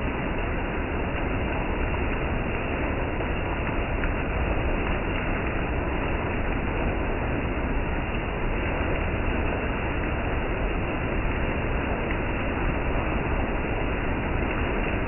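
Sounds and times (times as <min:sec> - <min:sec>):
rain on paving and a car: 0:00.0 - 0:15.0.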